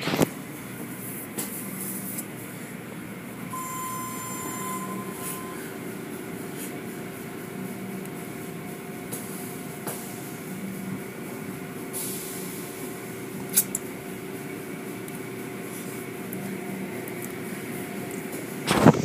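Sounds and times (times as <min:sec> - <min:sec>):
car wash motors humming: 0:00.0 - 0:19.0.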